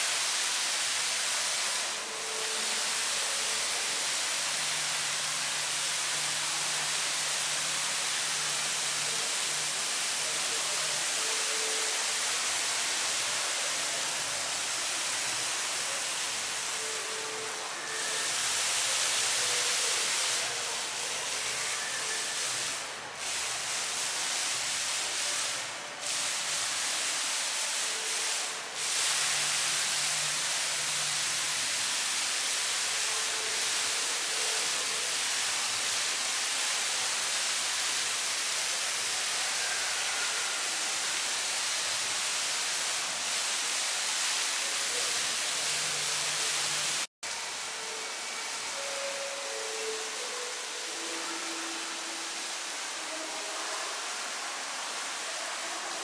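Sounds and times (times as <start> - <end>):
steady hissing noise: 0.0 - 56.0.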